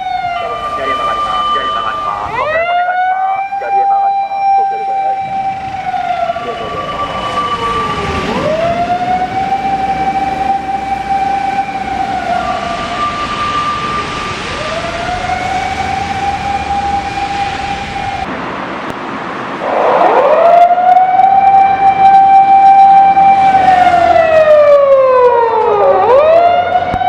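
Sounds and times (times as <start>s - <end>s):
fire engine siren wailing: 0.0s - 18.3s, 19.5s - 27.0s
truck engine: 0.0s - 27.0s.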